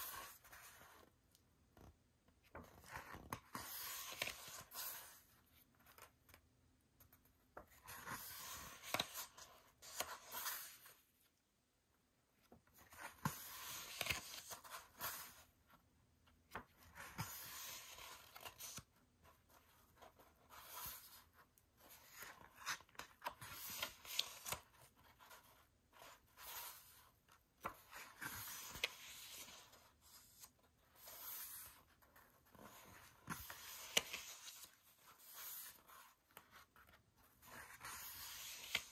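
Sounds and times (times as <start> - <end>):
pages being turned: 0.0 - 1.1, 1.8 - 6.4, 7.1 - 11.0, 12.7 - 15.5, 16.4 - 18.8, 19.5 - 38.9.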